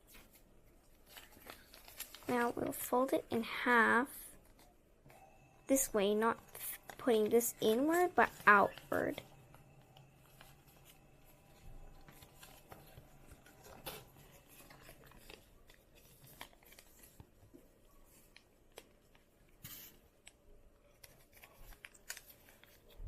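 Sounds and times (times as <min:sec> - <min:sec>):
paper rustle: 0:00.0 - 0:03.2, 0:05.7 - 0:20.3, 0:20.9 - 0:23.0
paper being folded: 0:00.0 - 0:04.8, 0:05.7 - 0:23.0
paper crackles: 0:00.0 - 0:04.8, 0:05.7 - 0:23.0.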